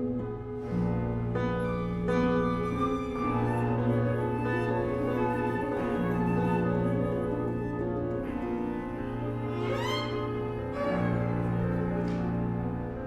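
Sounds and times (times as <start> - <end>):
solo bassoon and chamber ensemble: 0.0 - 13.0.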